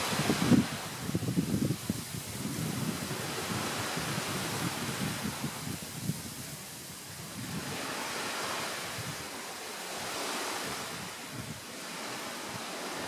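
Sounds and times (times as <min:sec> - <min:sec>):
wind gusting through leaves: 0:00.0 - 0:13.0.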